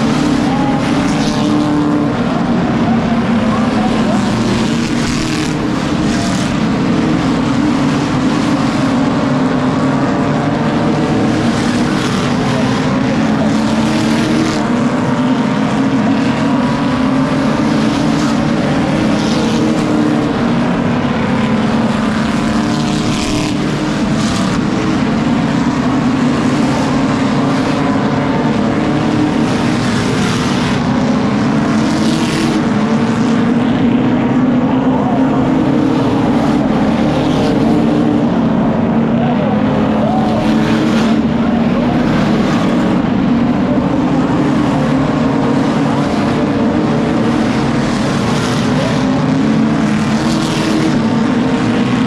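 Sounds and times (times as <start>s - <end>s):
race car engines droning: 0.0s - 52.0s
race car passing close by: 0.0s - 52.0s.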